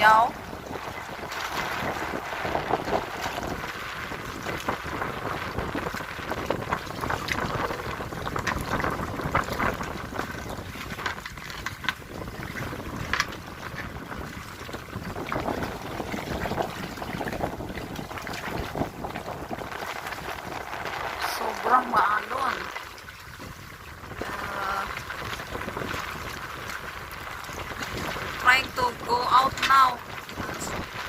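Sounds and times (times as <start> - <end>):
waves splashing around a kayak: 0.0 - 31.0
wind buffeting microphone: 0.0 - 31.0.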